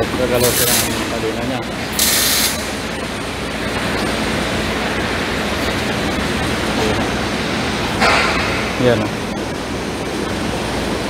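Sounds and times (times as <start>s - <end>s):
hydraulic pump rushing noise: 0.0s - 9.8s.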